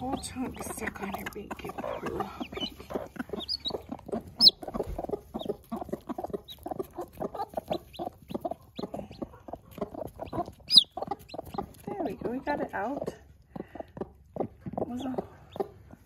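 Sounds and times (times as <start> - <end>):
chick peeping: 0.0 - 16.0
hen clucking: 0.0 - 16.0.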